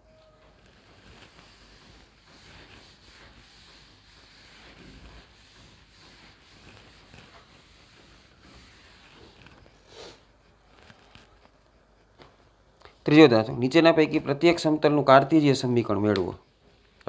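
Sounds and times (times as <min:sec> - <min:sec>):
eraser wiping whiteboard: 0:00.4 - 0:16.9.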